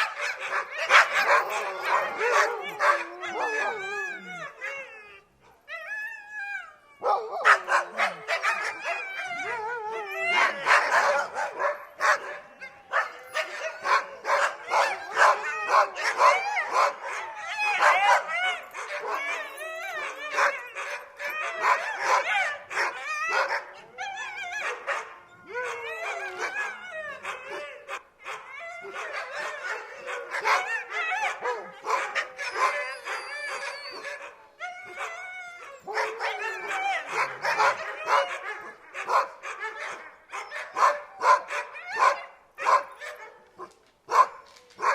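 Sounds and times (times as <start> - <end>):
dogs barking: 0.0 - 4.4, 7.0 - 23.8, 24.6 - 35.2, 35.8 - 44.9
dogs howling and whining: 0.0 - 44.9.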